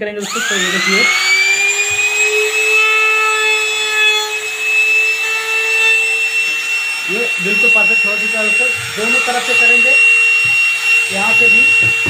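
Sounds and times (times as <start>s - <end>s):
electric trimmer whining at high speed: 0.0s - 12.0s.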